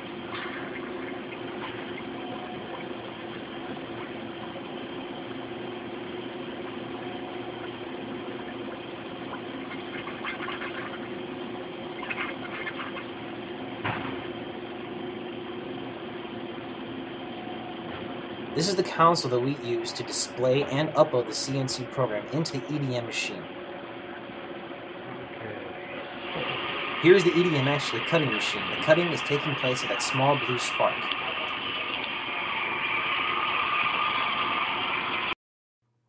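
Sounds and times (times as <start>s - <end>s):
machine hum: 0.0s - 35.4s.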